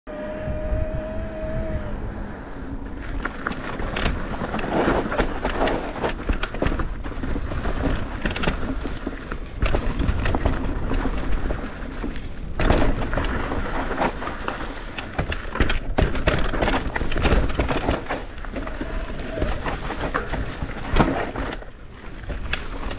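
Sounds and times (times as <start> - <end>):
bike tyres on dirt and leaves: 2.0 - 22.9
bike knocks and rattles: 2.8 - 22.9.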